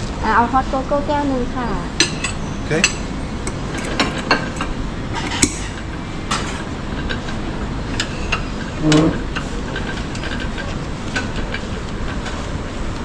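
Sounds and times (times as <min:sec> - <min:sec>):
plates and cutlery clinking: 0:02.0 - 0:12.7.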